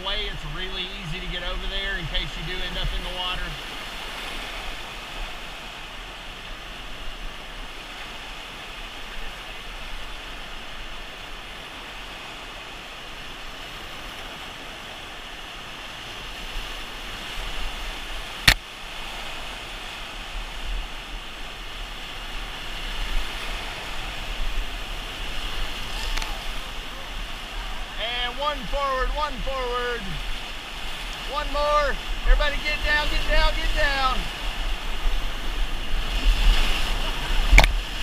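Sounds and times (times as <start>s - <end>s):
whitewater rapids rushing: 0.0s - 38.0s.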